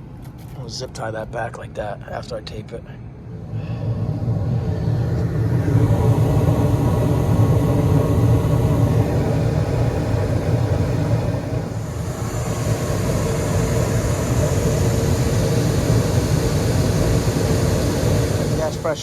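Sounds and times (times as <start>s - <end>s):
hvac unit humming: 0.0s - 19.0s
gas burners hissing: 3.3s - 19.0s.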